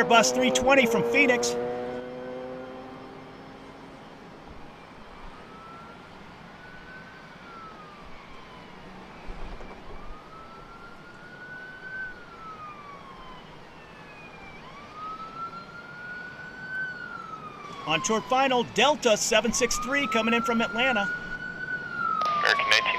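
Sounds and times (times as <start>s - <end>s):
emergency siren wailing: 0.0s - 22.9s.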